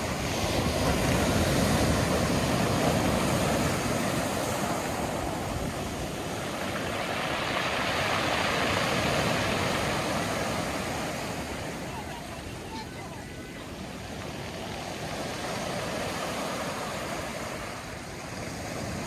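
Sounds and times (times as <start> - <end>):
surf washing up pebble beach: 0.0 - 19.0.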